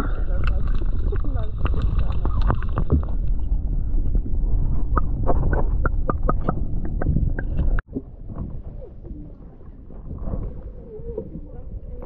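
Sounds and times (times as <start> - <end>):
muffled underwater rumble: 0.0 - 12.0.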